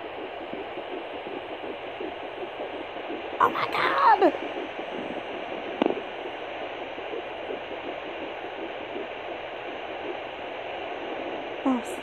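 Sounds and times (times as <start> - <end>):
doppler static hiss: 0.0 - 12.0.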